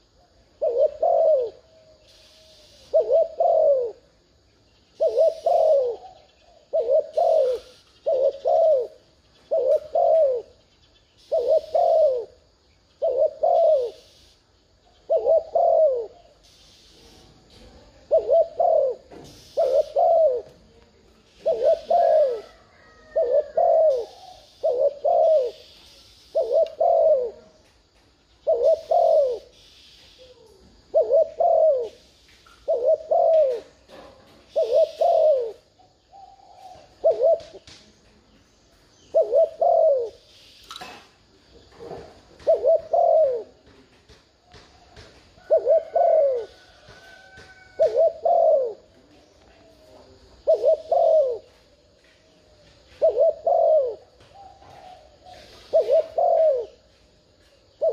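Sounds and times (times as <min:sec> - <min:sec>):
dove cooing: 0:00.0 - 0:27.6, 0:28.4 - 0:37.9, 0:39.0 - 0:41.0, 0:41.6 - 0:57.9.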